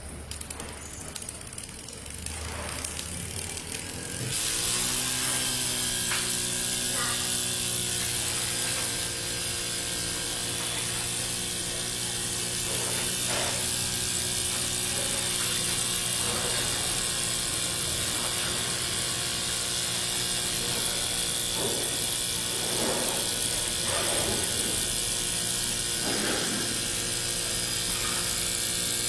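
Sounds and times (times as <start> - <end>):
steam engine whirring: 0.0 - 29.0
steam hissing: 0.6 - 29.0.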